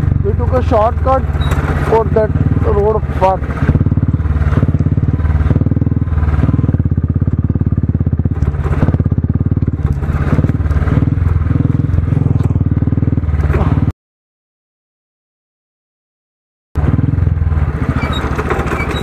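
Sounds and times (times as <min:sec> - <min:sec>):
motorcycle engine running: 0:00.0 - 0:13.9, 0:16.8 - 0:19.0.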